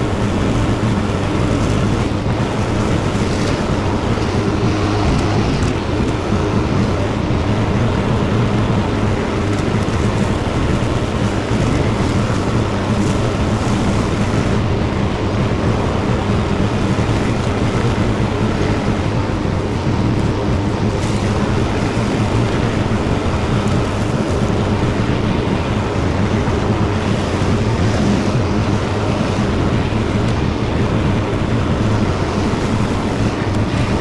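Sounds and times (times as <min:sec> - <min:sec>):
mower cutting grass: 0:00.0 - 0:34.0
tractor engine running: 0:00.0 - 0:34.0.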